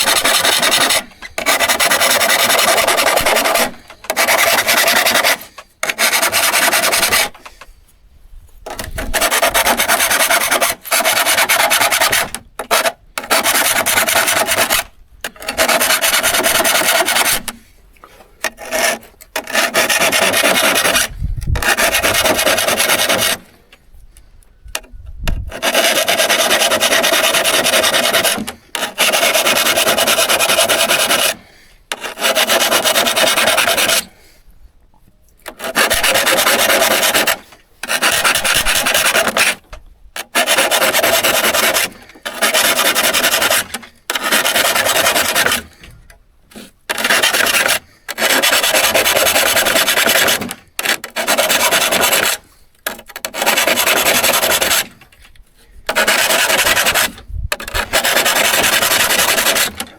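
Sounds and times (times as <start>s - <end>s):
rasping scrape on steel saw: 0.0s - 7.8s, 8.6s - 23.7s, 24.6s - 34.4s, 35.4s - 59.9s.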